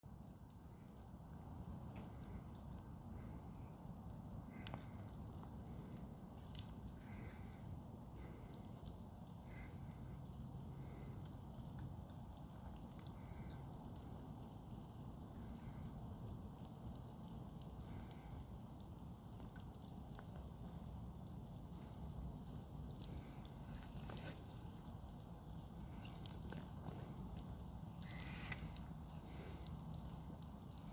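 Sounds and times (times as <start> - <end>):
campfire crackling and popping: 0.0 - 30.9
small birds chirping: 0.0 - 30.9.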